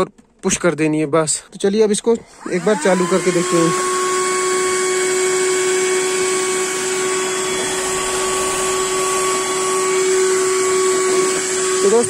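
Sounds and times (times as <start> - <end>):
handheld vacuum cleaner running: 2.2 - 12.0.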